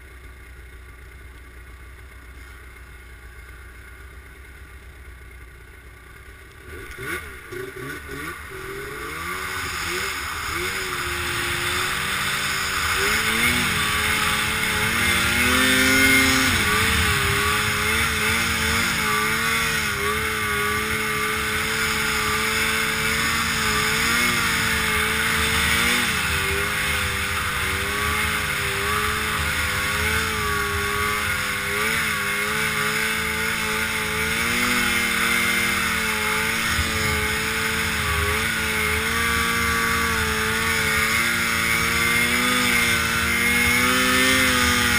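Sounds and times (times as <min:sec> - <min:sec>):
snowmobile engine under throttle: 0:00.0 - 0:44.9
steady rushing noise: 0:06.6 - 0:44.9.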